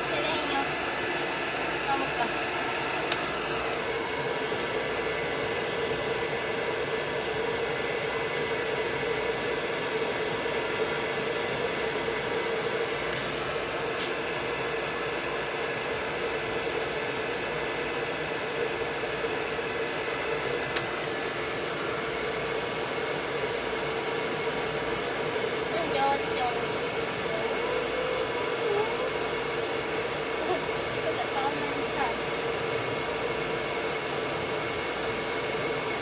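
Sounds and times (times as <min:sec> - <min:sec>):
pet dryer blowing: 0:00.0 - 0:36.0.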